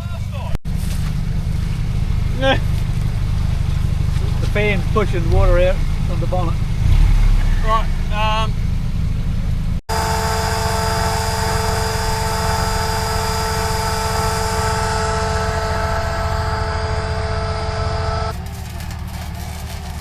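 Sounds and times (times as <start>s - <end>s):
constant high whine: 0.0s - 20.0s
engine running steadily: 0.0s - 20.0s.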